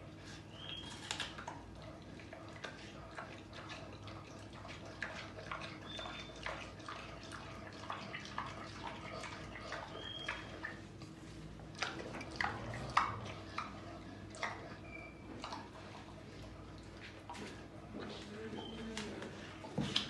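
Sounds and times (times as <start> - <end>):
pig smacking and chewing: 0.0 - 20.0.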